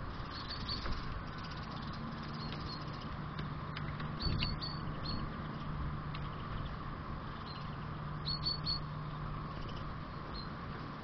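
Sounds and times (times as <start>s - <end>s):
small birds chirping: 0.0s - 10.6s
steady low hum: 0.0s - 11.0s.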